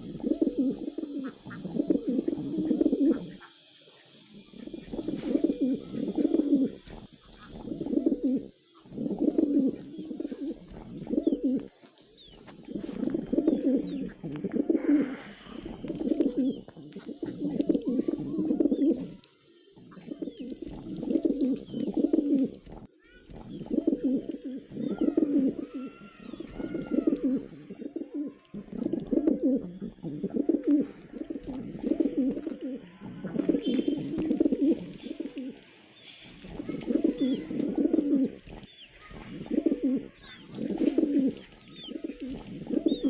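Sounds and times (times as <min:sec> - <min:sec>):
pigeons cooing: 0:00.0 - 0:03.6, 0:04.2 - 0:19.2, 0:19.8 - 0:35.6, 0:36.2 - 0:43.0.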